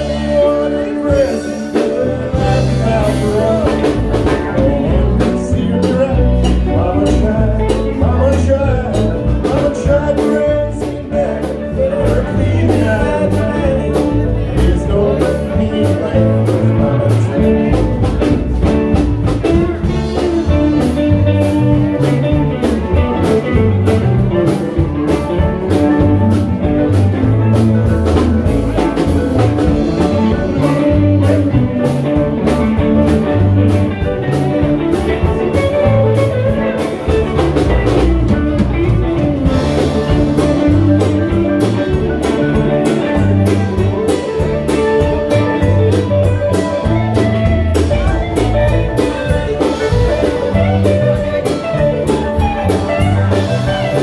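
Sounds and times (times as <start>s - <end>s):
bass and drums beat: 0.0s - 54.0s
electric guitar: 0.0s - 54.0s.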